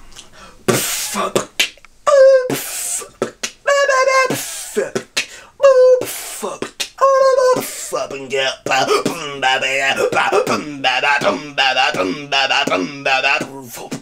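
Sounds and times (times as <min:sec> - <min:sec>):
man beatboxing: 0:00.2 - 0:14.0.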